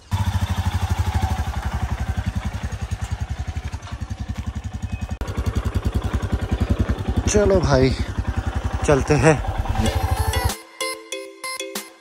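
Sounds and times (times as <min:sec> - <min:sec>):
motorcycle engine thumping: 0:00.1 - 0:10.5.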